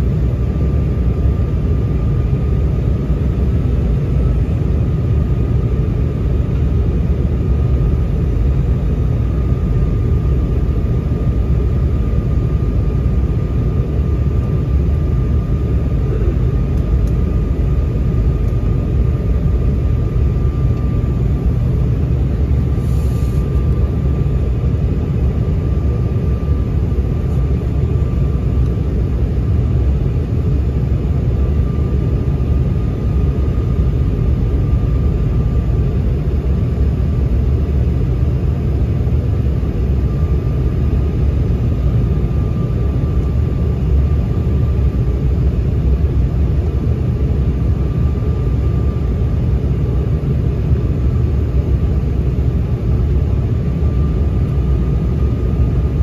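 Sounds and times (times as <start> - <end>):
airliner cabin rumble: 0.0 - 56.0
thin steady whine: 0.0 - 56.0.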